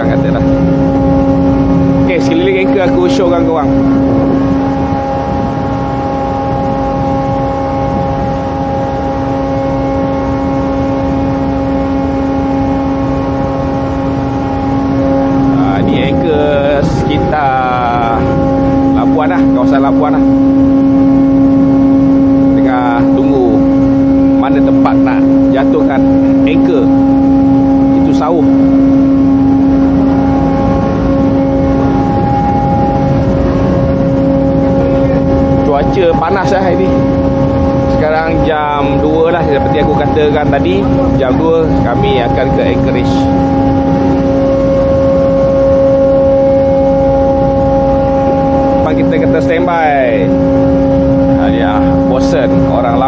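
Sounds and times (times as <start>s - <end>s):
rough low rumble: 0.0s - 53.0s
ship machinery drone: 0.0s - 53.0s.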